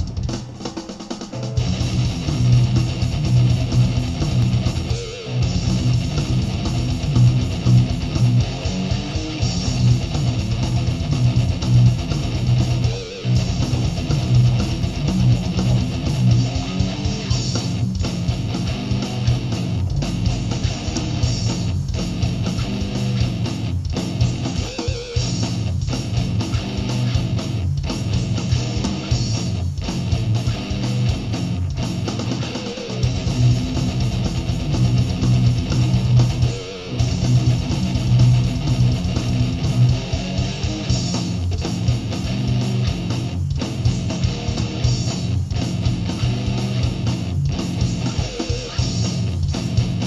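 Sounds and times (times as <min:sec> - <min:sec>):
electric guitar riff: 0:00.0 - 0:50.0.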